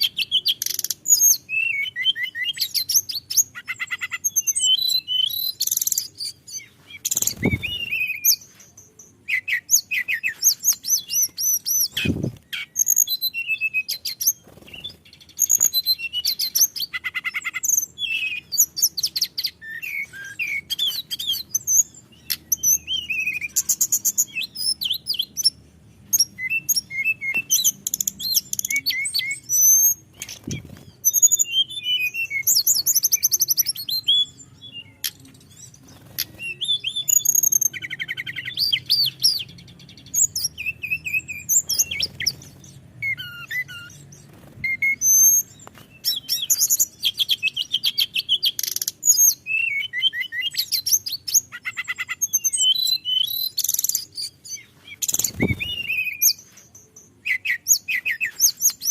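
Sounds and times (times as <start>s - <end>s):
flycatcher singing: 0.0s - 58.9s.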